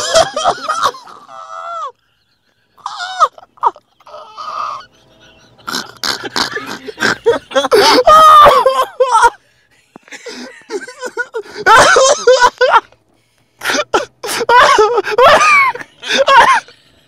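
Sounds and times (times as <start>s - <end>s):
person laughing hard: 0.0s - 1.9s, 2.8s - 9.4s, 10.0s - 12.9s, 13.6s - 16.8s.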